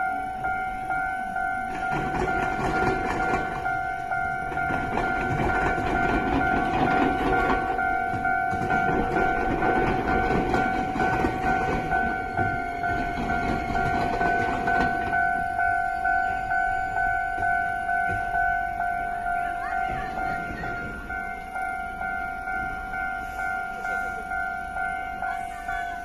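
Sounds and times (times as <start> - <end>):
level crossing warning bell: 0.0 - 26.0
train rumbling over rails: 0.0 - 26.0.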